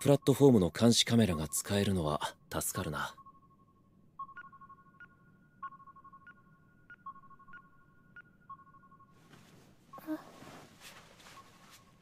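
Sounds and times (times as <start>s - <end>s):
faint electronic beeping: 0.0s - 9.3s, 9.9s - 12.0s.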